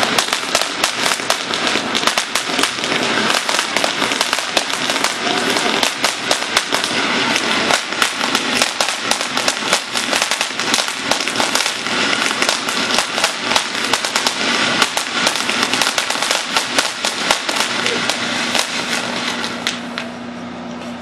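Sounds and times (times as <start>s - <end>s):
firework hissing and crackling: 0.0s - 20.2s.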